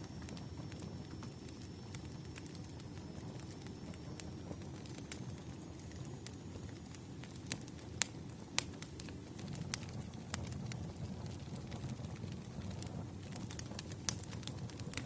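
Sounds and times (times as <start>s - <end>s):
campfire crackling: 0.0s - 15.0s
sharp pops of burning wood: 0.3s - 15.0s.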